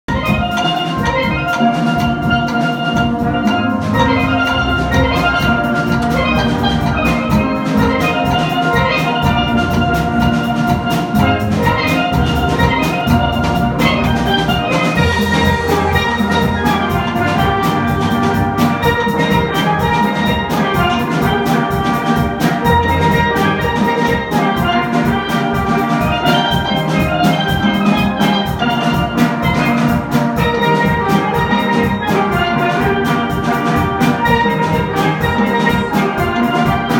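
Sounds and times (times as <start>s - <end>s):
drums keeping a steady beat: 0.0s - 36.9s.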